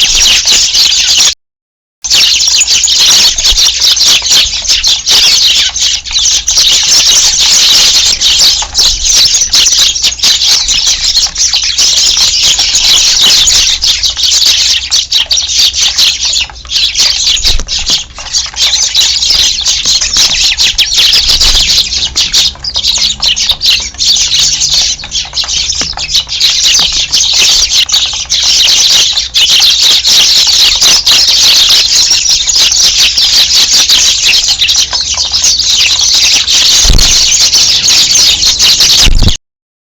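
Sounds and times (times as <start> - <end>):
flock of sparrows chirping: 0.0 - 1.4, 2.1 - 39.4.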